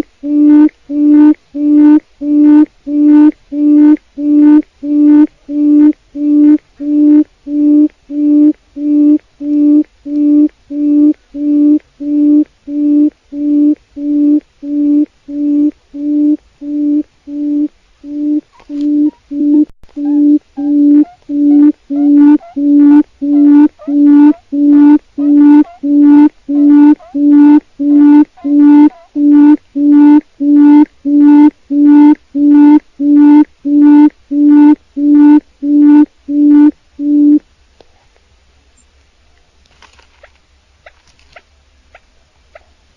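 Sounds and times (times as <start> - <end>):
quail hooting call: 0.0 - 37.4.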